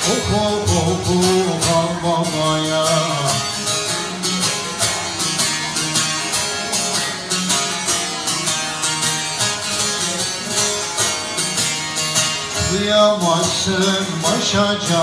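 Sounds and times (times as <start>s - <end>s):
long-necked lute strumming: 0.0s - 15.0s.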